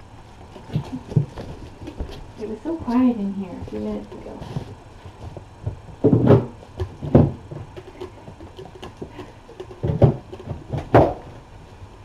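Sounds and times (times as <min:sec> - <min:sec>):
light patter: 0:00.0 - 0:12.0
dull thumps and knocks: 0:00.5 - 0:11.8.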